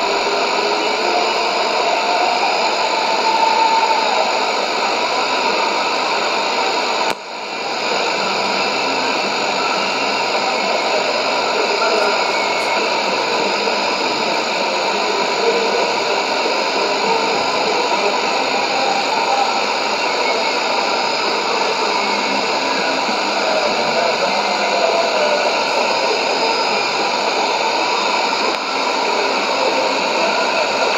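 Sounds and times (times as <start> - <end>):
faint radio broadcast: 0.0 - 30.9
radio static and hiss: 0.0 - 30.9.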